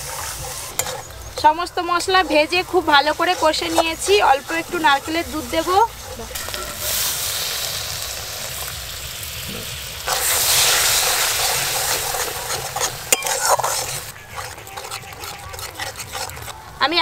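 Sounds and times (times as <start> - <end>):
spatula scraping a pan: 0.0 - 7.6, 10.1 - 17.0
paste sizzling in a metal pan: 0.0 - 17.0.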